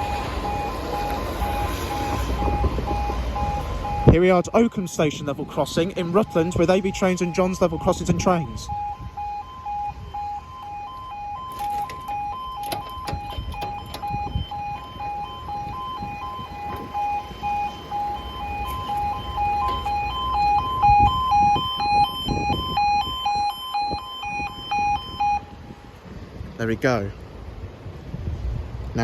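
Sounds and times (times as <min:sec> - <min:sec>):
two-tone crossing alarm: 0:00.0 - 0:26.0.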